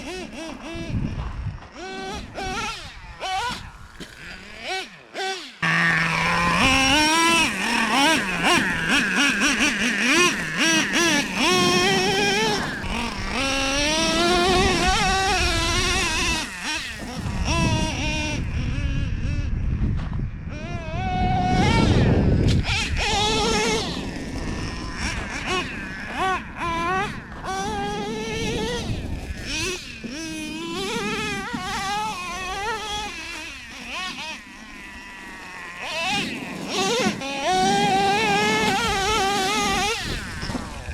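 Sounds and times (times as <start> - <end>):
nitro engine revving: 0.0 - 40.9.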